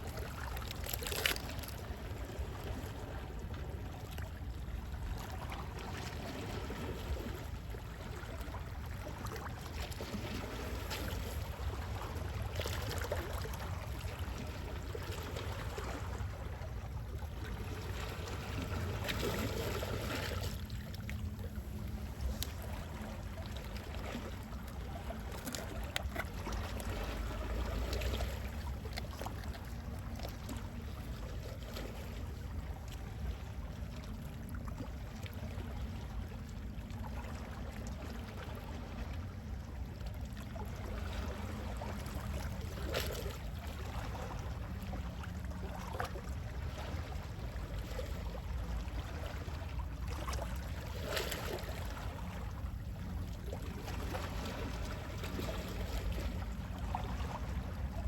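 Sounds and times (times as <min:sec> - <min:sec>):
sea waves lapping and splashing: 0:00.0 - 0:58.0.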